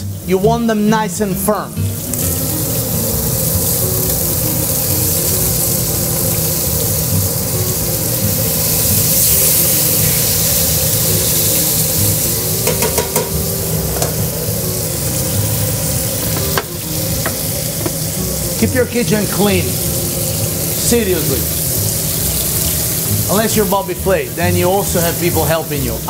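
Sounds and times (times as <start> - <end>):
meat sizzling in a pan: 1.7 - 26.0.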